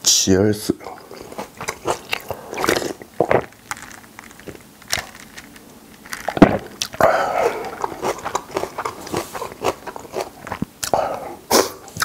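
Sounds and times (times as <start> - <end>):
person swallowing water: 0.8 - 5.2, 6.0 - 11.2
plastic cup crackling: 0.9 - 10.8.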